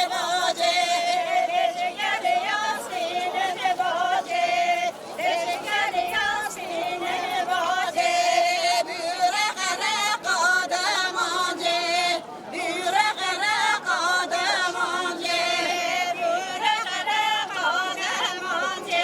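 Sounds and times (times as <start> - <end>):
crowd singing together: 0.0 - 19.0.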